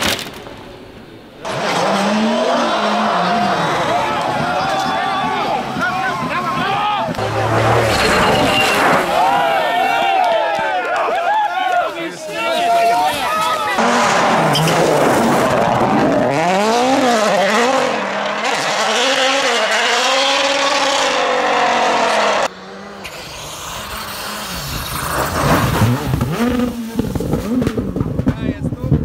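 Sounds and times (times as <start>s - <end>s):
rally car engines revving: 1.4s - 10.2s, 12.2s - 29.0s.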